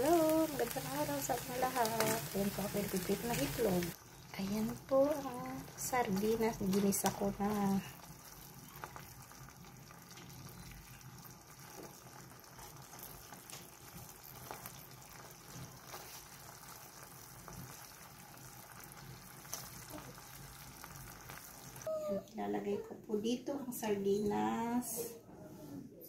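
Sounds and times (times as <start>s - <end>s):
fish sizzling in a frying pan: 0.0s - 21.9s.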